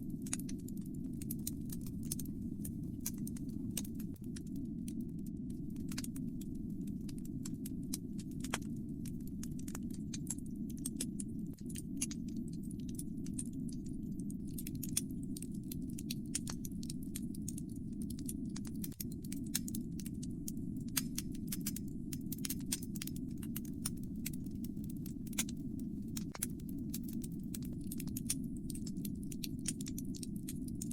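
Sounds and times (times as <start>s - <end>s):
low rumble of flames: 0.0s - 30.9s
wood fire crackling and popping: 0.0s - 30.9s.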